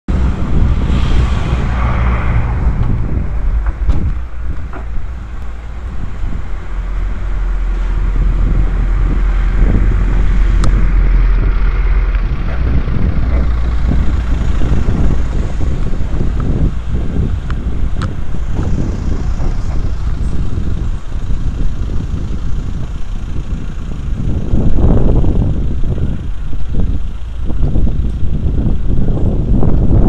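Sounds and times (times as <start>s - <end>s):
street noise: 0.1s - 30.0s
wind buffeting microphone: 0.1s - 30.0s.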